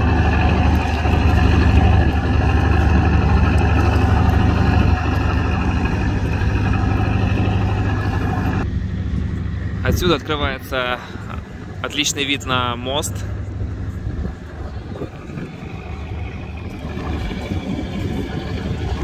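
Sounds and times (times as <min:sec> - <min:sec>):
boat diesel engine idling: 0:00.0 - 0:19.0.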